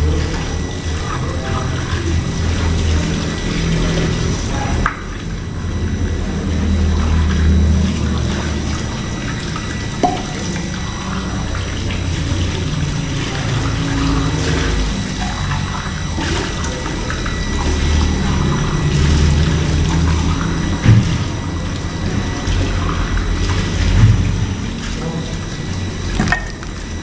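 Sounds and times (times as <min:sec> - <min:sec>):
plastic cups being rinsed: 0:00.0 - 0:27.0
water running into steel sink: 0:00.0 - 0:27.0.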